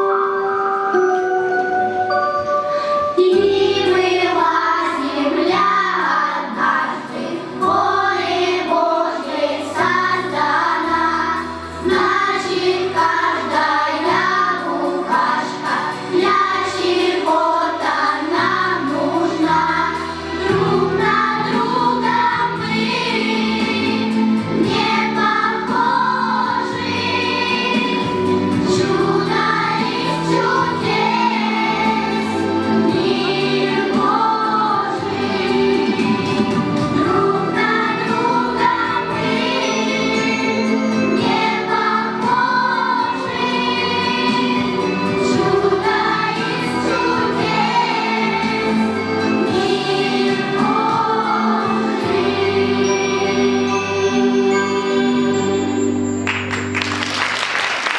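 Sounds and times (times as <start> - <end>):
choir singing: 0.0 - 55.6
instrumental accompaniment: 0.0 - 57.9.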